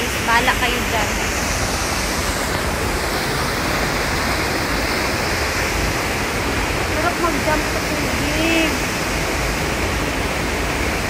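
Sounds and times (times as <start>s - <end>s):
stream pouring over rocks: 0.0s - 11.0s
waterfall rushing: 0.0s - 11.0s.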